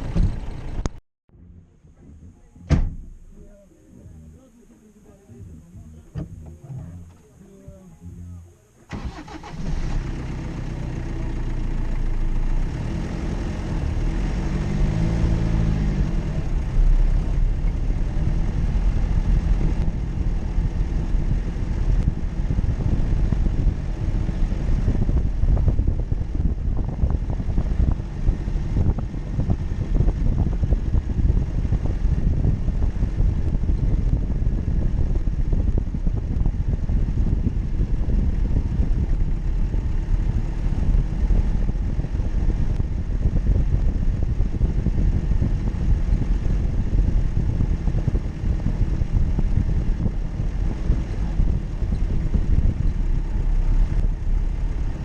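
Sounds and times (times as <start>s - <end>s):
car engine driving off-road: 0.0s - 55.0s.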